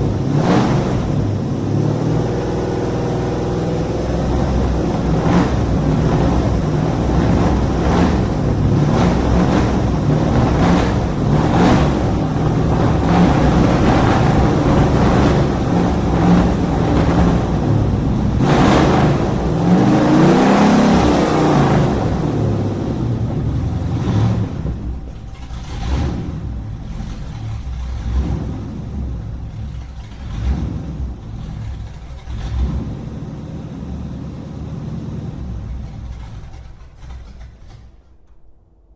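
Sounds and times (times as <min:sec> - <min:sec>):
car engine running and revving: 0:00.0 - 0:38.0.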